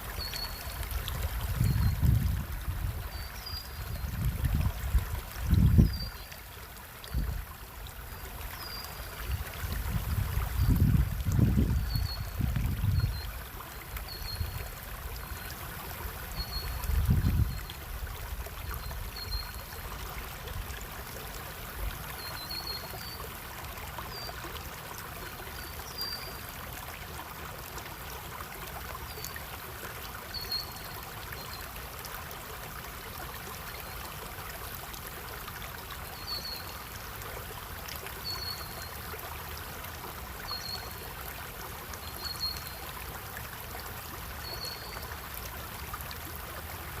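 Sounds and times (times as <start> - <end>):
stream water running: 0.0 - 47.0.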